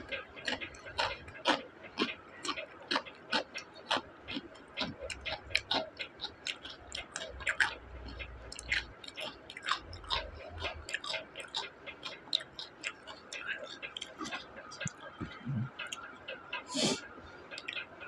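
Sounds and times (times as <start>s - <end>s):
person chewing crunchy food: 0.0s - 17.8s.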